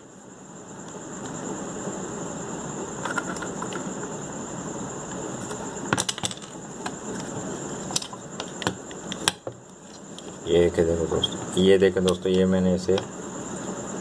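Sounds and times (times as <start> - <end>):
background hiss: 0.0 - 14.0
faint high-pitched whine: 0.0 - 14.0.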